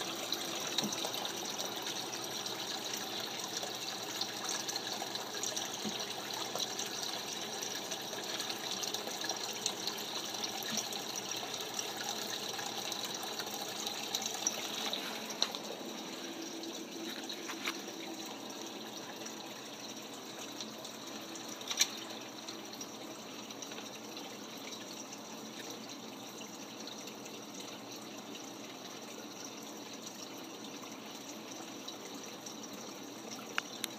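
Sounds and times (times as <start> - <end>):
water trickling in aquarium: 0.0 - 33.9.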